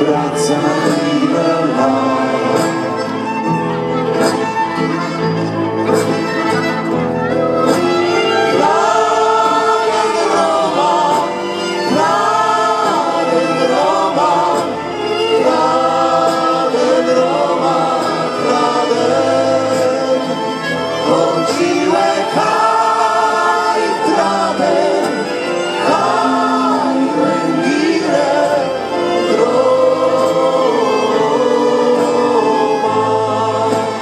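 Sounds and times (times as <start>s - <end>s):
men and women singing together: 0.0s - 3.3s, 8.3s - 34.0s
acoustic guitars: 0.0s - 34.0s
violin: 0.0s - 34.0s.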